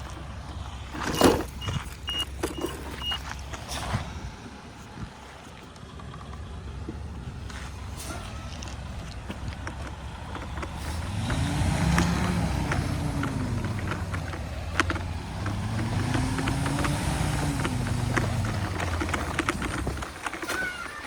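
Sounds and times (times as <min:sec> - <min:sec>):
tyre and wind rumble: 0:00.0 - 0:21.0.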